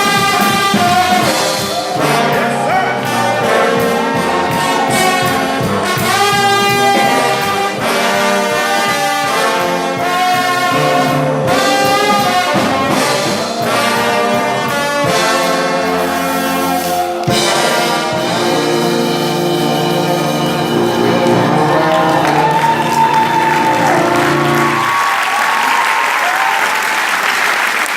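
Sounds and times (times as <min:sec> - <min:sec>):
brass ensemble playing chords: 0:00.0 - 0:25.2.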